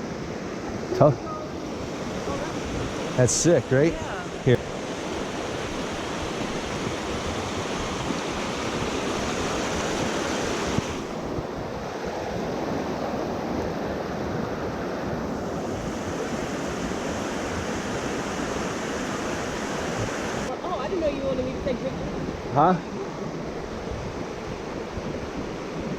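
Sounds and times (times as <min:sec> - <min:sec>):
rushing water: 0:00.1 - 0:25.9.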